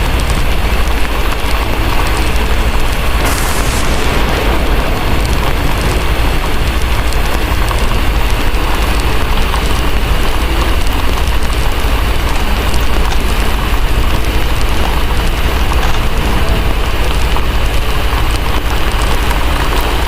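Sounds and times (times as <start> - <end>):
heavy rain: 0.0 - 20.0
steady low rumble: 0.0 - 20.0
wood fire crackling: 0.0 - 20.0.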